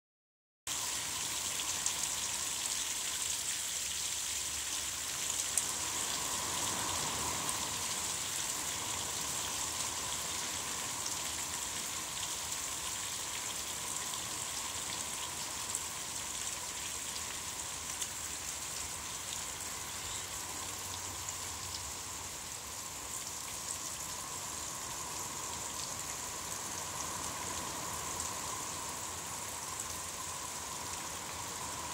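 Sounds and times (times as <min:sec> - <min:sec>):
rain falling: 0:00.7 - 0:31.9.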